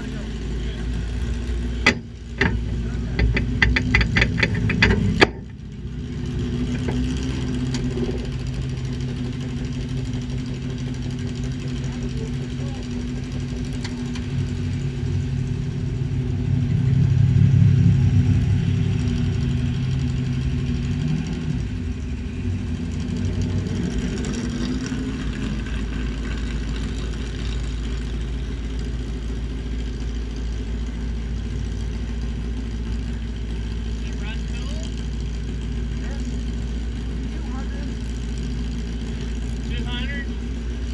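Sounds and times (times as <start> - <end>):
race car engine idling: 0.0 - 40.9.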